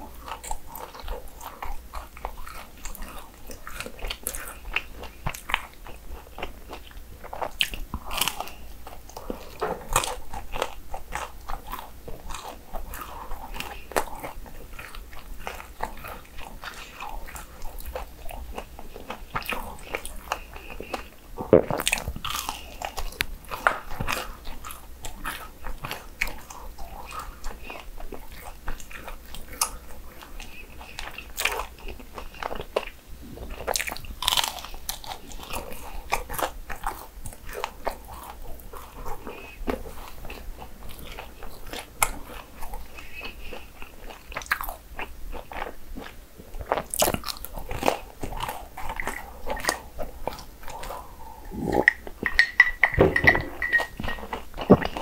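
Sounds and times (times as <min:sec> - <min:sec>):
crisp crunchy chewing: 0:00.0 - 0:52.5.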